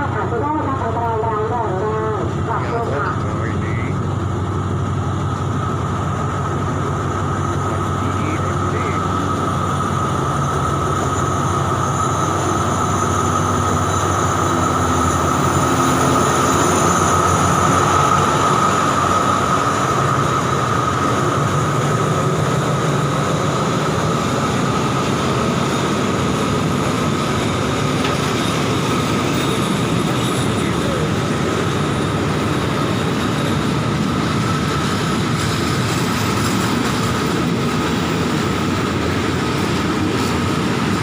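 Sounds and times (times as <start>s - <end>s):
train running: 0.0s - 41.0s.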